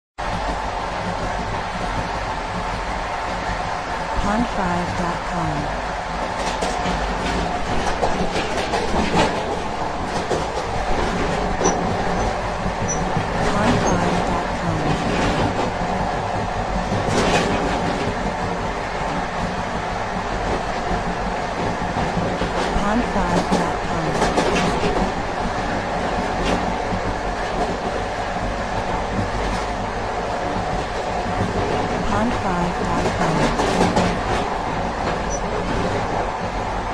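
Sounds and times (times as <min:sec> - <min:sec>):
heavy train rumble: 0:00.2 - 0:36.9.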